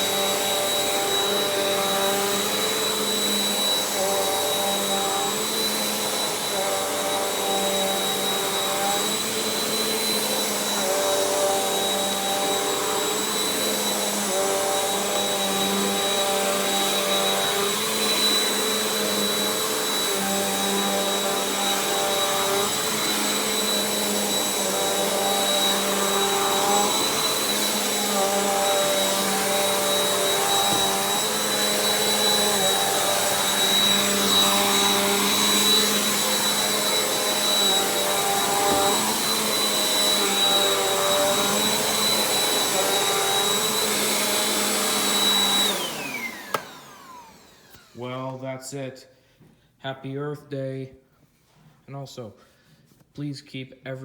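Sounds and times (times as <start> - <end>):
vacuum cleaner motor whine: 0.0 - 48.1.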